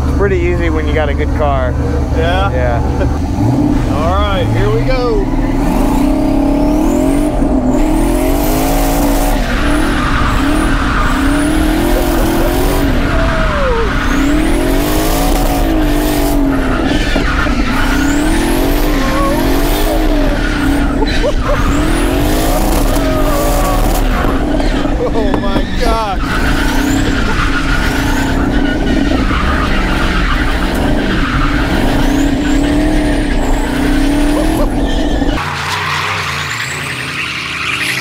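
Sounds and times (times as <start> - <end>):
car engine revving: 0.0 - 38.0
tyre squeal: 3.7 - 38.0.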